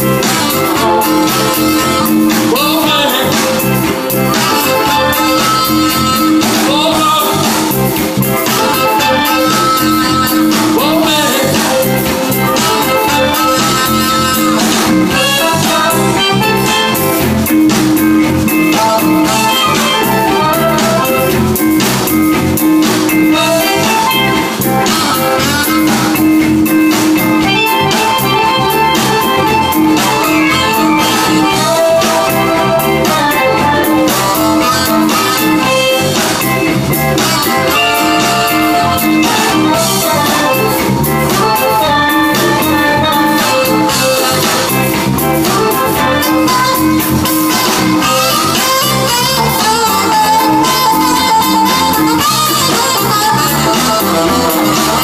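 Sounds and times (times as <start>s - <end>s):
accordion: 0.0s - 55.0s
drum kit: 0.0s - 55.0s
electric bass: 0.0s - 55.0s
electric guitar: 0.0s - 55.0s.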